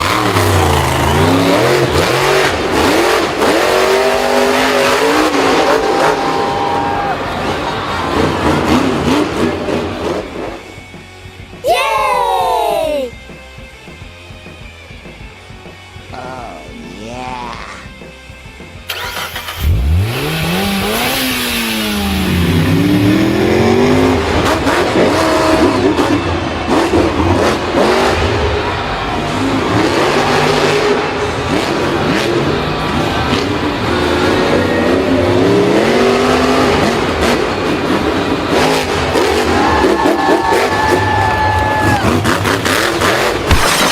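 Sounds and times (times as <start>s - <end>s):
engine revving: 0.0s - 11.0s, 18.9s - 43.9s.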